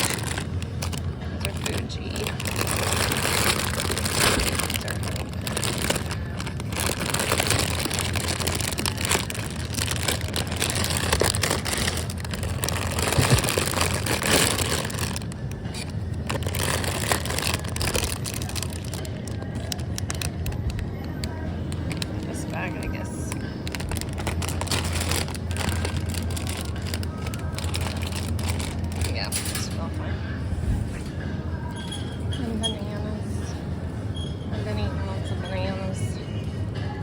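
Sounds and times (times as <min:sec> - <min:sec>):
plastic bag rustling: 0:00.0 - 0:29.8
store background noise: 0:00.0 - 0:37.0.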